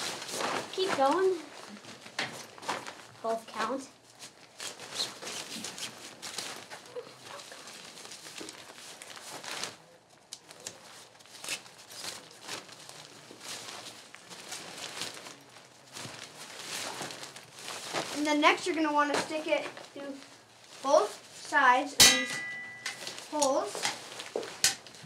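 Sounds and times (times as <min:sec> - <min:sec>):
tent fabric rustling and crinkling: 0:00.0 - 0:21.9, 0:22.6 - 0:25.0.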